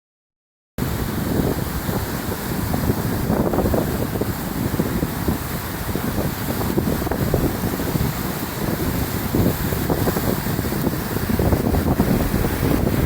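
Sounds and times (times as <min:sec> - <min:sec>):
sea surf on a beach: 0:00.8 - 0:13.0
wind buffeting microphone: 0:00.8 - 0:13.0.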